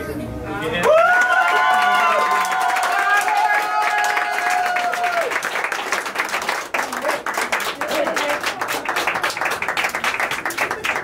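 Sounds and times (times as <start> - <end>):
audience applauding: 0.8 - 11.0
voices among clapping: 0.8 - 11.0.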